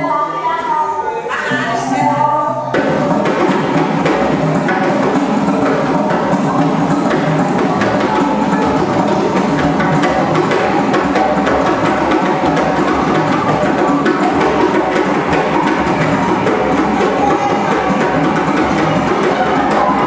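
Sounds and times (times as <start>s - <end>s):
hand drum rhythm: 1.5s - 20.0s.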